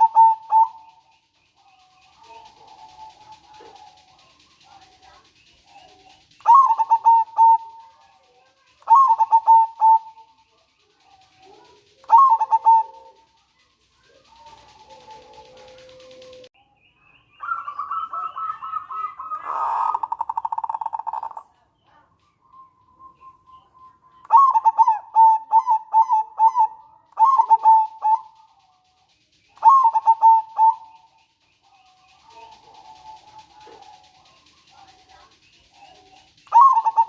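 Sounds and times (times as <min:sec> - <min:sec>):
dove cooing notes: 0:00.0 - 0:16.5, 0:17.4 - 0:21.6, 0:23.0 - 0:37.0
dove rattling call: 0:00.0 - 0:16.5, 0:17.4 - 0:37.0.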